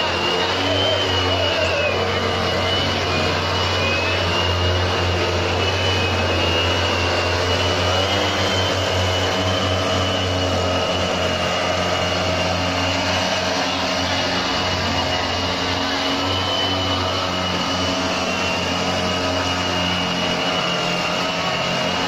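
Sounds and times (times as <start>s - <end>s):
blower whine: 0.0s - 22.0s
two-stroke engines droning: 0.0s - 22.0s.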